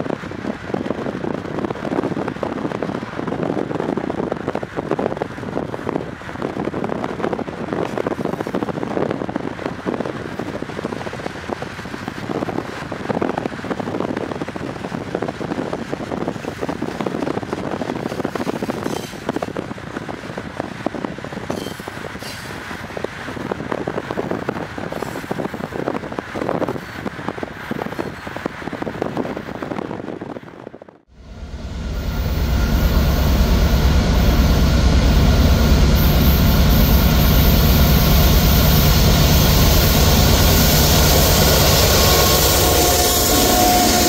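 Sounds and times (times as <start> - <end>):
freight train wheels rumbling: 0.0 - 44.0
wind noise: 0.0 - 44.0.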